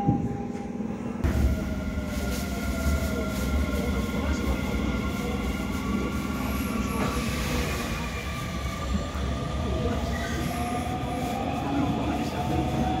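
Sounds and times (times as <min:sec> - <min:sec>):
train running rumble: 0:01.2 - 0:13.0.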